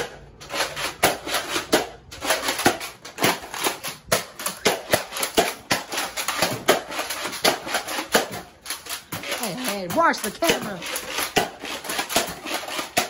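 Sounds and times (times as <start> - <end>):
toy blasters clacking: 0.0 - 13.0.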